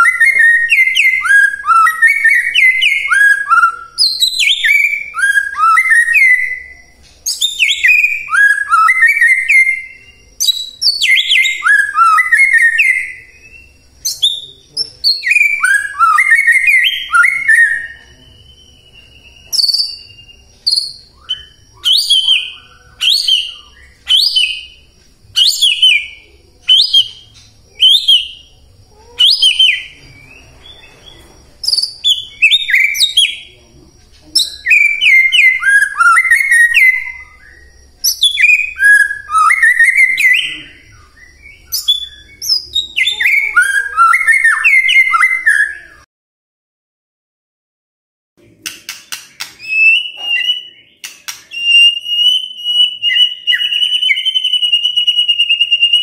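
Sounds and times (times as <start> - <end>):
bird singing whistled phrases: 0.0 - 46.1, 49.2 - 56.0.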